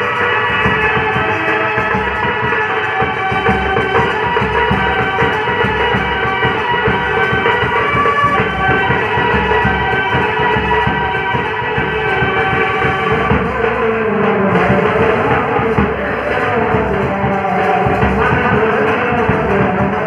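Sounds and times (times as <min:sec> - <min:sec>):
continuous drum beat: 0:00.0 - 0:20.0
instruments holding steady tones: 0:00.0 - 0:20.0.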